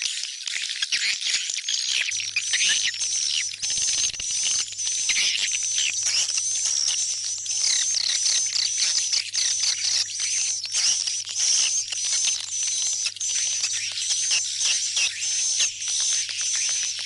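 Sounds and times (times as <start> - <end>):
swiftlet chittering chirps: 2.1 - 17.0.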